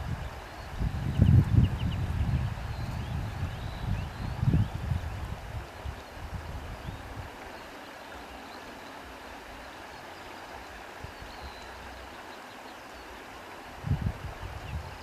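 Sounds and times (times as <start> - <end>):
wind blowing through grass: 0.0 - 15.0.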